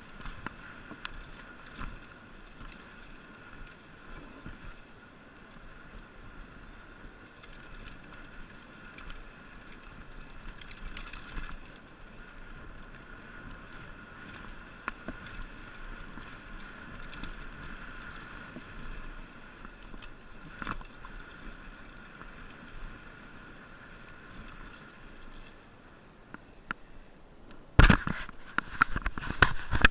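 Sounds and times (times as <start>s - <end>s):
bike tyre and frame whir: 0.0s - 27.0s.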